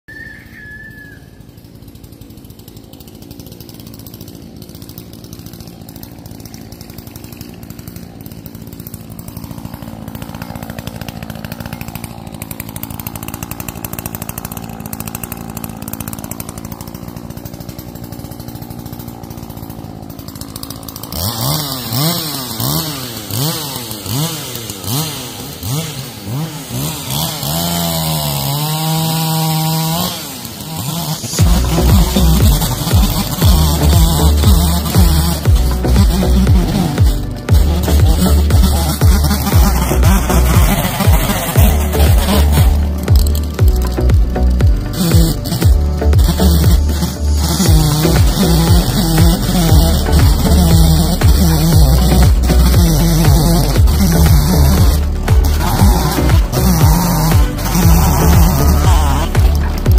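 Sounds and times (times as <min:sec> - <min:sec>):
chainsaw idling and revving: 0:00.0 - 0:59.9.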